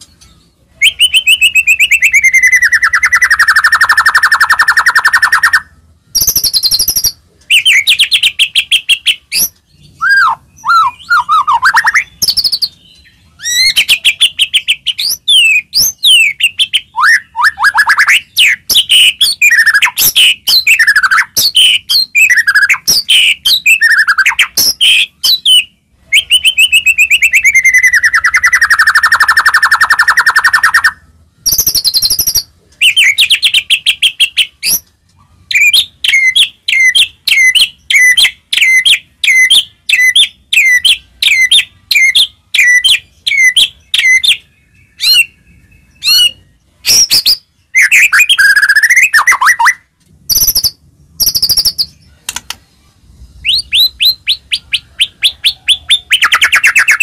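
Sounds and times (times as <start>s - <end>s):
bird singing trills and whistles: 0.0s - 34.9s, 35.5s - 52.2s, 53.3s - 57.0s.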